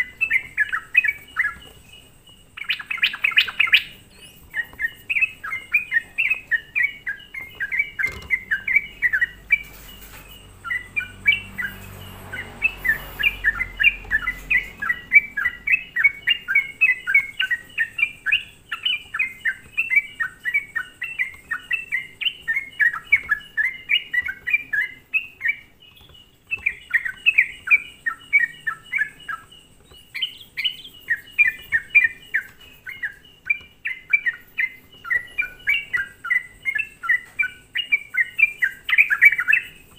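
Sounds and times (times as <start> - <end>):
bird singing bubbling chirps: 0.0 - 39.9.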